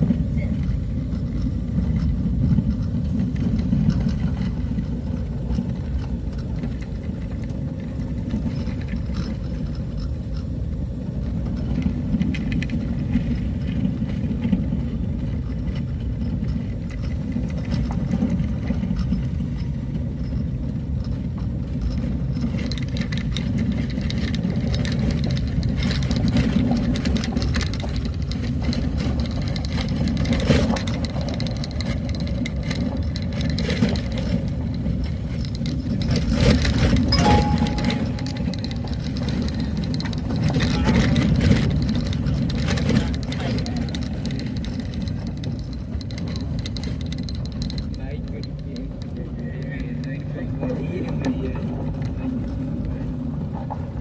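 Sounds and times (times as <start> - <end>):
rattling and clatter: 0.0 - 54.0
vehicle engine and road rumble: 0.0 - 54.0.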